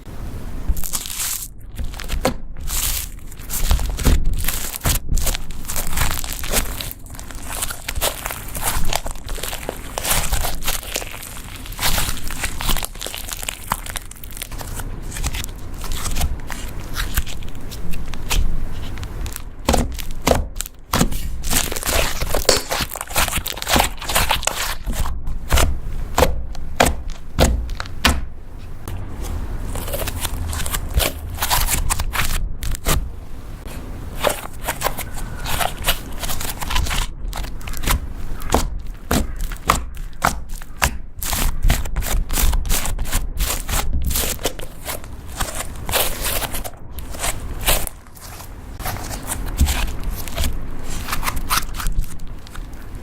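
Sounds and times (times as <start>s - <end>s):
slime squishing and popping: 0.8s - 28.3s, 34.2s - 52.6s.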